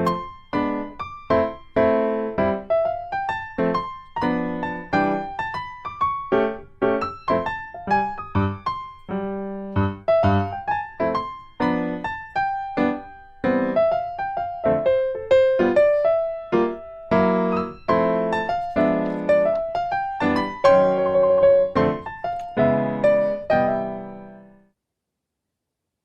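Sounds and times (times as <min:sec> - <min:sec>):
gentle piano music: 0:00.0 - 0:24.7.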